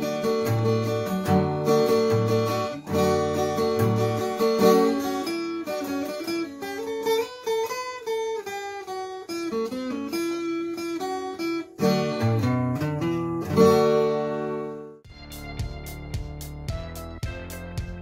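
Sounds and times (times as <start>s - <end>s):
fingerpicked acoustic guitar: 0.0s - 18.0s.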